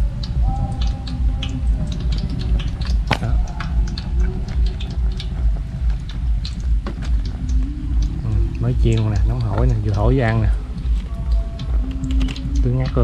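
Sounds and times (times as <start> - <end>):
hot oil crackling and popping: 0.0 - 13.0
low rumble: 0.0 - 13.0.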